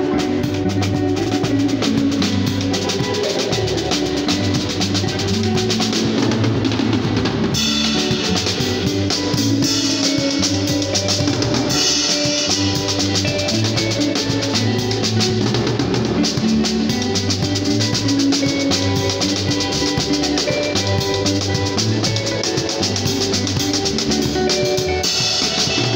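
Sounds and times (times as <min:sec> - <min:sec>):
fast drum kit groove: 0:00.0 - 0:25.9.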